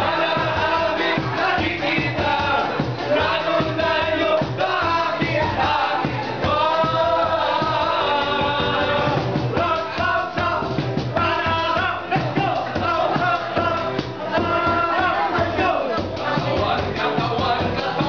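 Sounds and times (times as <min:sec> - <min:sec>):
group singing: 0:00.0 - 0:18.0
music with steady beat: 0:00.0 - 0:18.0.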